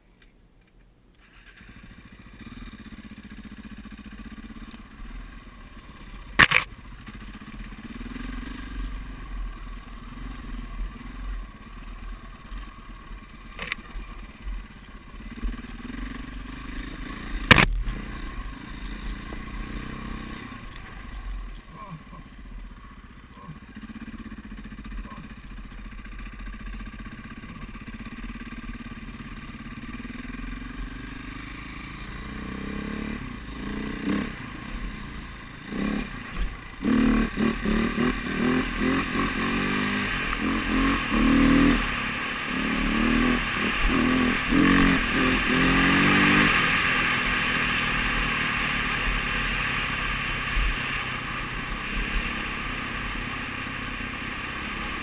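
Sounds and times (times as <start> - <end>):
wind and tyre noise: 0.0 - 55.0
dirt bike engine revving: 1.3 - 55.0.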